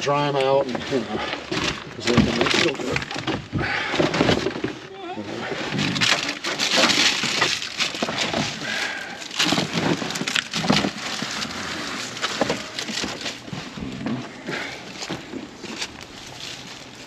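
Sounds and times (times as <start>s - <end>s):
dry debris crackling and knocking: 0.0s - 17.0s.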